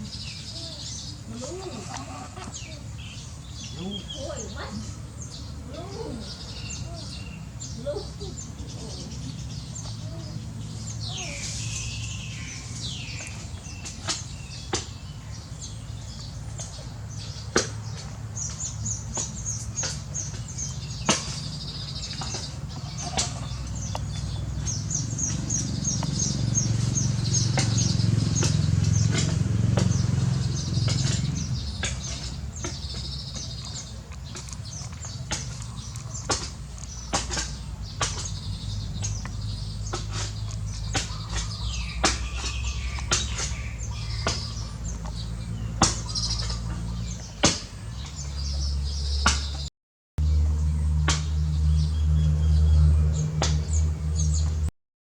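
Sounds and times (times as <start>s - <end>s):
small birds chattering: 0.0s - 49.7s.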